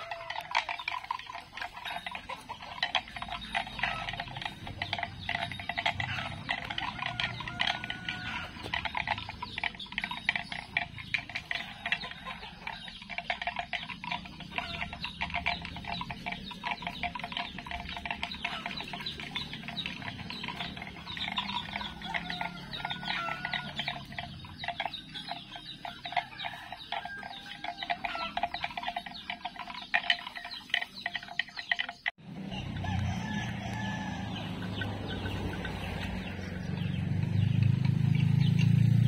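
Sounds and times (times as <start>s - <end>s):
cattle chewing grass: 0.0s - 39.0s.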